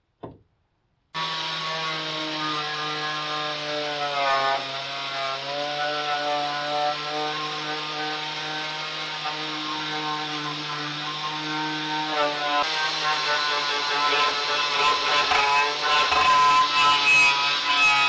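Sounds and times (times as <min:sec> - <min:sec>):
angle grinder grinding metal: 0:01.2 - 0:18.0.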